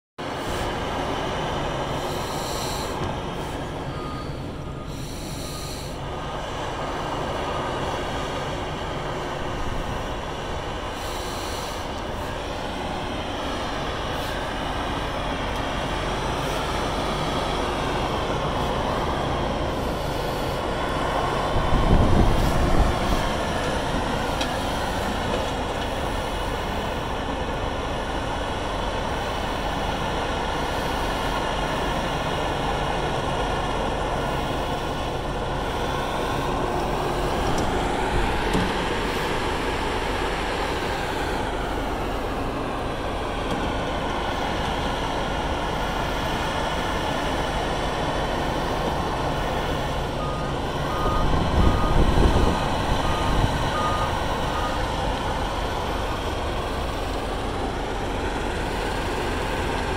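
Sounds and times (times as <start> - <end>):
deep machinery rumbling: 0.2 - 59.9
wheel loader engine: 0.2 - 59.9.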